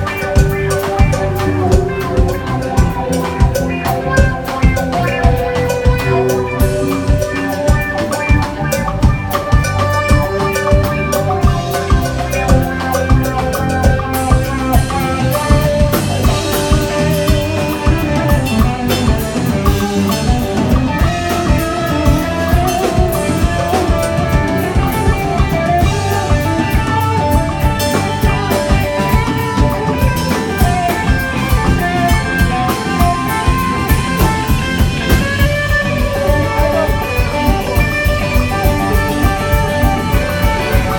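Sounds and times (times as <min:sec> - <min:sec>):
driving drum beat: 0:00.0 - 0:40.9
live rock band playing: 0:00.0 - 0:40.9.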